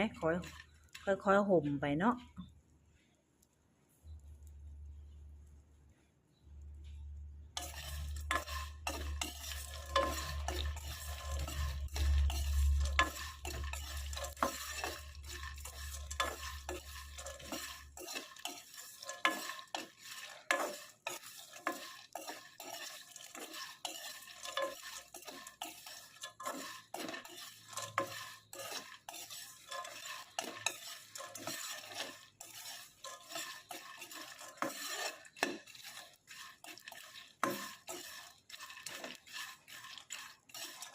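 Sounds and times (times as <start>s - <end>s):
spatula scraping seeds in a pan: 0.0s - 2.3s, 6.0s - 40.9s.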